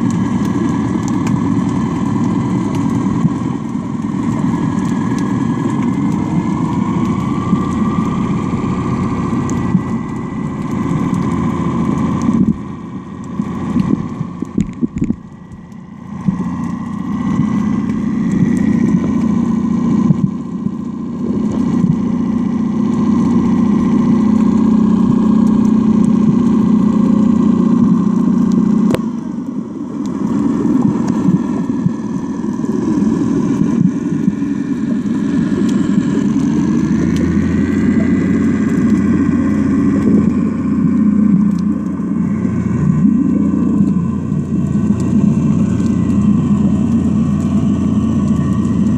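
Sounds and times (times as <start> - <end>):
engine drone through water: 0.0 - 48.9.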